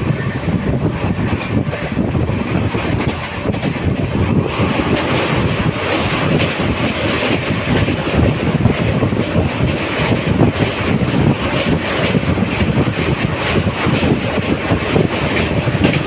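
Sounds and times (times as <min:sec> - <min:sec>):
train rumbling: 0:00.0 - 0:16.0
wind buffeting microphone: 0:00.0 - 0:16.0.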